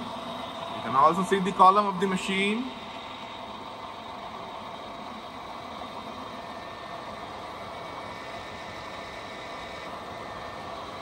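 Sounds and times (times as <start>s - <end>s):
machinery hum and hiss: 0.0s - 11.0s.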